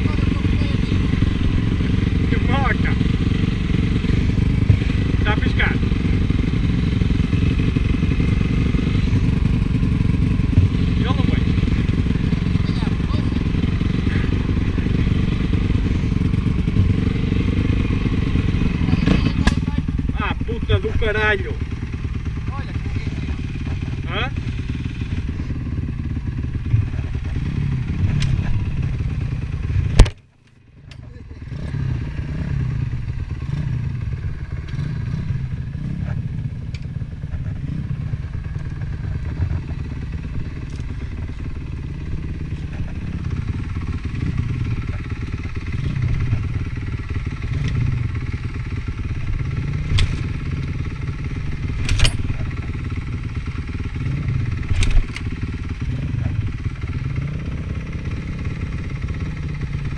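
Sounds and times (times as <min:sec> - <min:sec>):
motocross engine revving: 0:00.0 - 0:30.2, 0:31.0 - 0:59.9.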